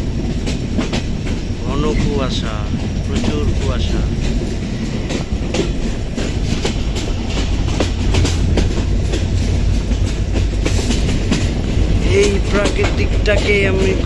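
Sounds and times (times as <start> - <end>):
rumble of wheels on track: 0.0 - 14.0
sharp clacks and rattles: 0.0 - 14.0.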